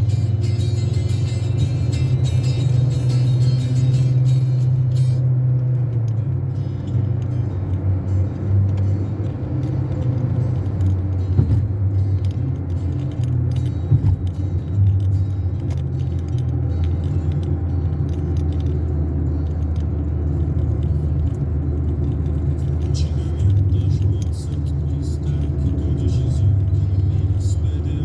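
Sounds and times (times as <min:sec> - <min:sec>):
car engine and road rumble: 0:00.0 - 0:28.0
interior rattles and clicks: 0:00.0 - 0:28.0.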